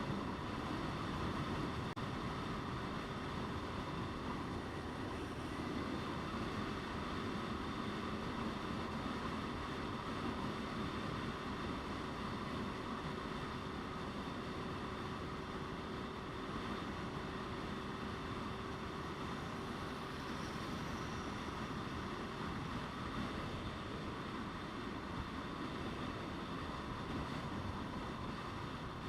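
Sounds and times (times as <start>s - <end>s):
motorcycle engine drone: 0.0s - 29.0s
wind rushing on microphone: 0.0s - 29.0s.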